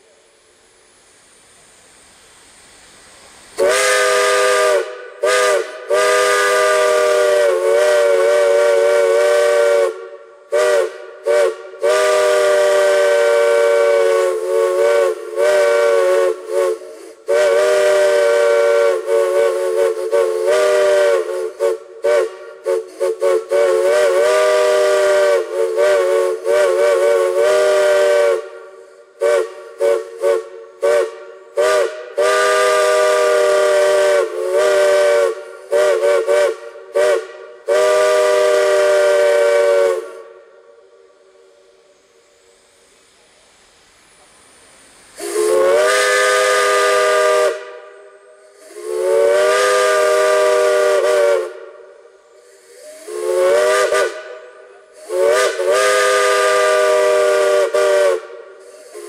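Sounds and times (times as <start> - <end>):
steam hissing: 0.0 - 59.0
steam whistle blasts and toots: 3.1 - 59.0.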